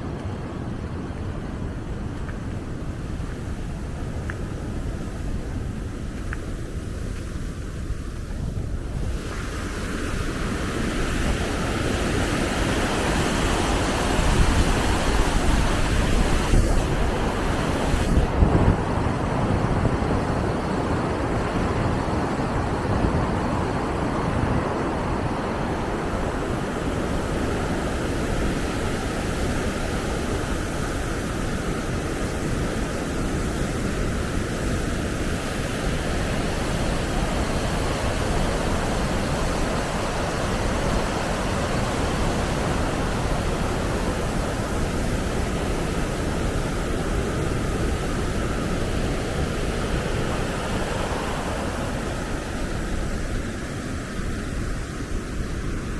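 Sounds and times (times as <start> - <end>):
water rushing over dam: 0.0 - 55.9.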